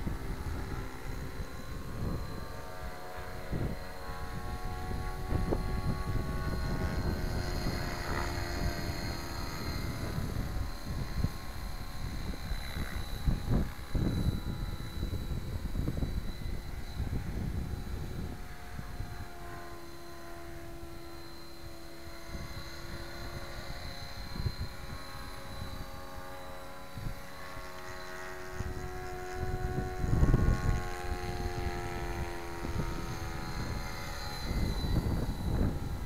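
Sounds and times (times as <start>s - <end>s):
rc helicopter motor whine: 0.0s - 36.0s.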